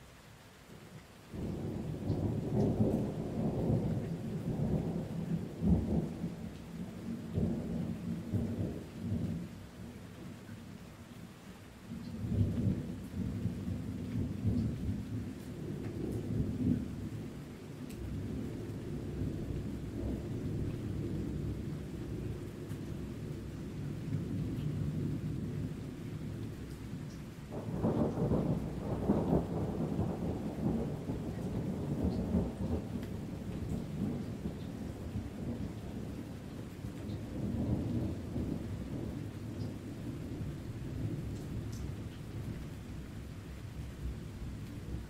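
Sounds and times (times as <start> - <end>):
steady rain: 0.0 - 45.0
deep rolling thunder: 1.4 - 9.4, 12.2 - 43.0.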